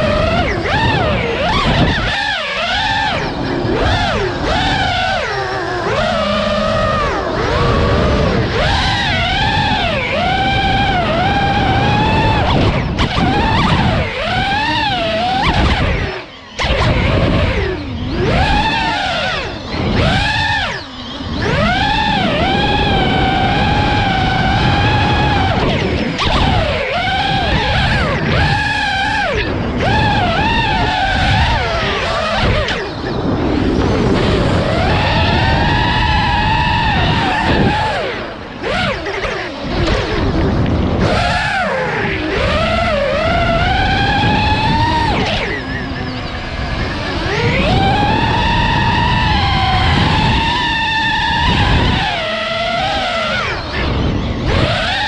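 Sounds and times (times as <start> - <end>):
drone propellers whining: 0.0 - 55.0
wind rushing: 0.0 - 55.0.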